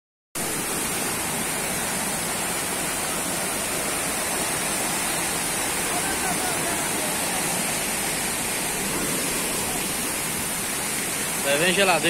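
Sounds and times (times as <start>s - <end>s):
floodwater rushing and churning: 0.4s - 12.0s.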